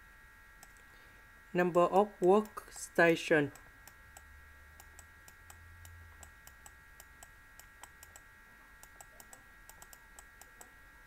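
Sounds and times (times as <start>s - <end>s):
faint electrical whine: 0.0s - 11.0s.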